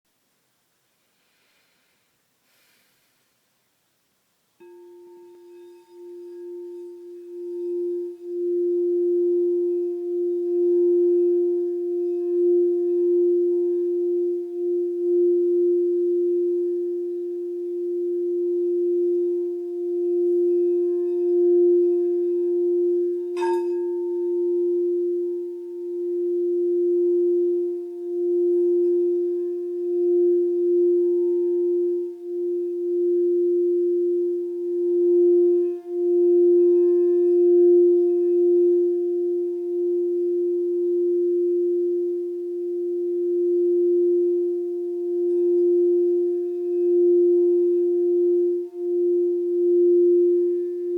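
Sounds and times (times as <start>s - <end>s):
singing bowl tone: 4.6s - 50.9s.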